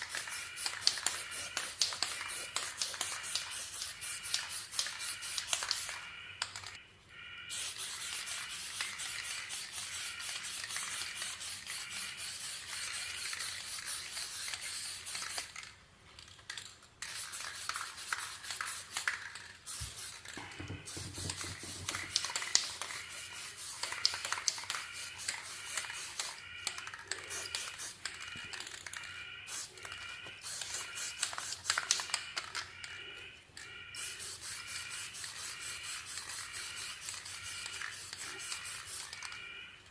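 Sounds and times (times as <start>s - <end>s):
spray paint can hissing: 0.0s - 6.0s, 7.5s - 15.7s, 17.0s - 28.9s, 29.5s - 29.7s, 30.4s - 32.6s, 34.0s - 39.3s.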